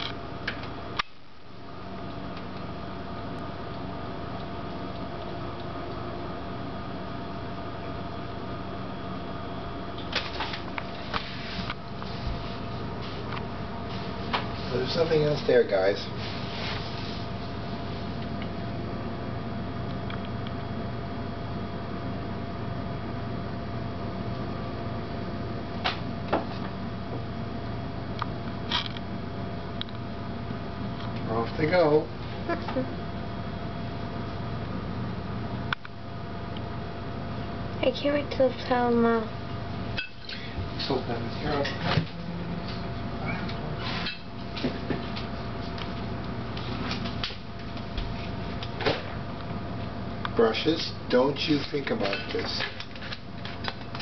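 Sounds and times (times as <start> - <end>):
steady background hum and hiss: 0.0 - 54.0.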